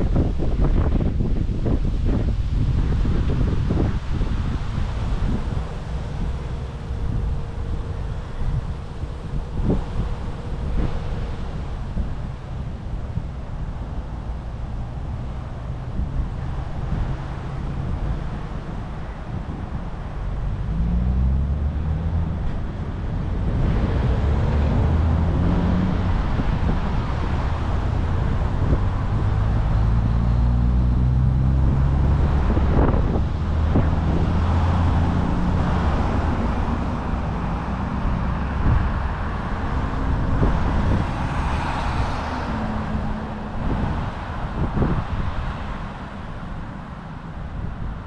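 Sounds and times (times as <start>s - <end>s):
low traffic rumble: 0.0s - 48.0s
vehicles passing and accelerating: 0.0s - 48.0s.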